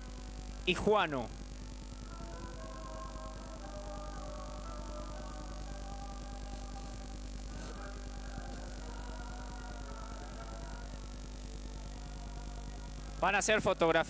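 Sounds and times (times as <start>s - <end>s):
faint background music: 0.0s - 14.0s
mains hum: 0.0s - 14.0s
tape hiss: 0.0s - 14.0s.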